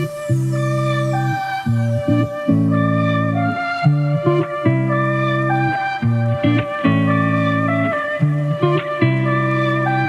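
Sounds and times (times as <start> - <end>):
plucked guitar with sliding notes: 0.0 - 10.0.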